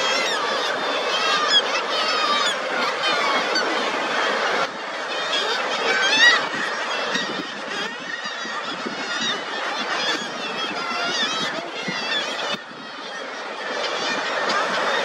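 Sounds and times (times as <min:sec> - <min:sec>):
loud seabird call: 0:00.0 - 0:15.0
seabird colony calls: 0:00.0 - 0:15.0.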